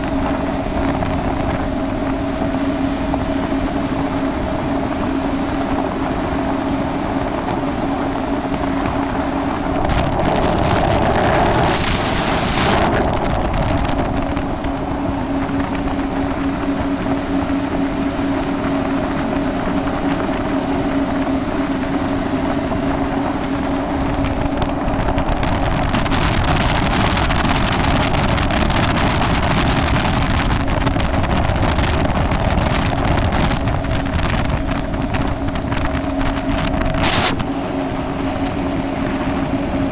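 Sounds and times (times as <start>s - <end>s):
jet ski engine running: 0.0s - 39.9s
wind on microphone: 0.0s - 39.9s.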